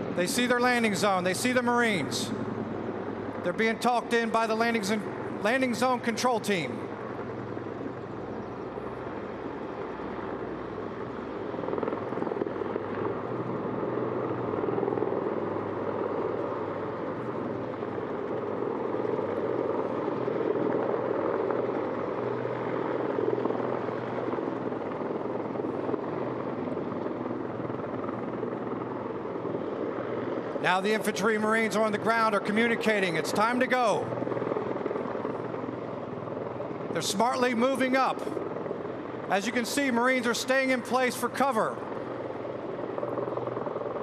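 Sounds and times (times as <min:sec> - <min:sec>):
tiltrotor aircraft rotor rumble: 0:00.0 - 0:44.0.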